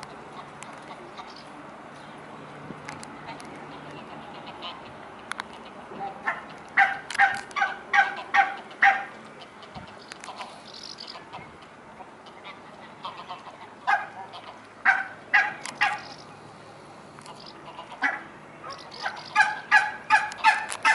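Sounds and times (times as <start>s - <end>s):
geese honking: 0.0s - 1.5s, 3.2s - 20.9s
low background noise: 0.0s - 20.9s.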